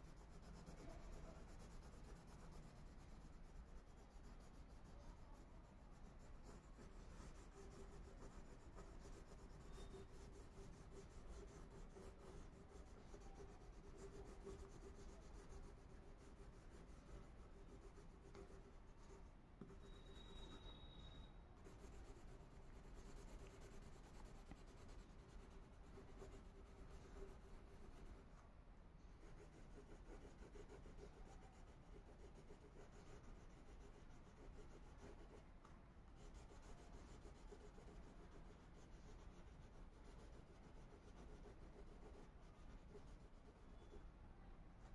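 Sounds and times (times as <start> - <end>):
crayon scratching on paper: 0.0 - 28.4, 29.0 - 35.4, 36.1 - 44.0.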